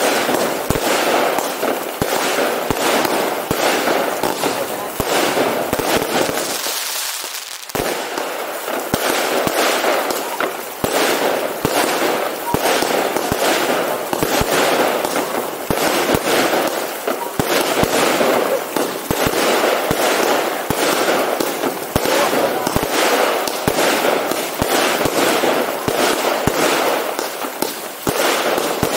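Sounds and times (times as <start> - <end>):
fireworks bangs: 0.0 - 28.9
fireworks crackling and hiss: 0.0 - 28.9.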